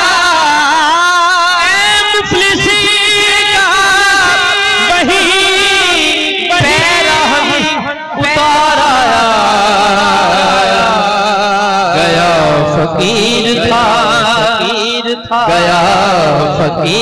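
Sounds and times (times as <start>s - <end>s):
man singing ornamented line: 0.0s - 17.0s.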